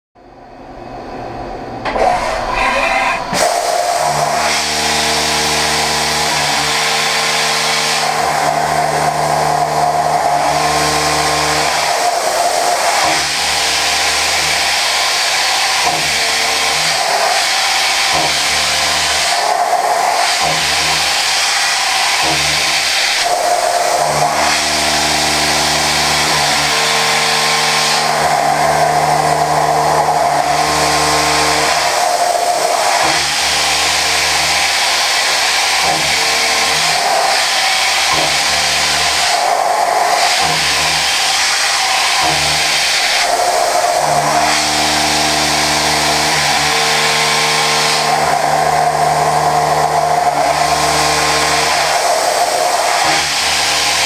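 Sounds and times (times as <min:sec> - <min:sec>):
machine hum with pitched tones: 0:00.2 - 0:54.0
hiss of metal cutting: 0:01.9 - 0:54.0.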